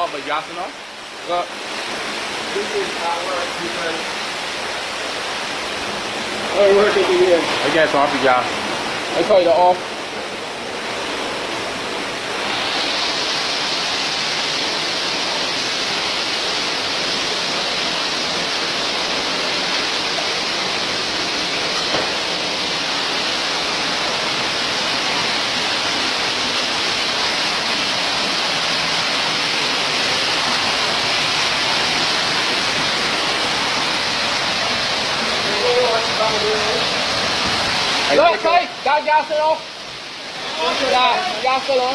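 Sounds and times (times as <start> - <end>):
heavy rain: 0.0 - 41.9
rushing floodwater: 0.0 - 41.9.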